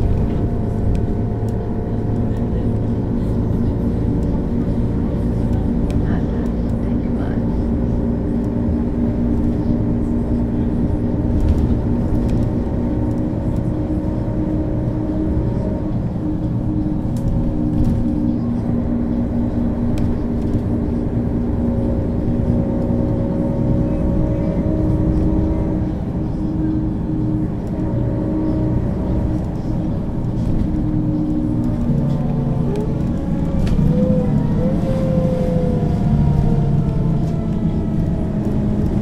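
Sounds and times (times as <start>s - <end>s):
bus diesel engine running: 0.0s - 39.0s.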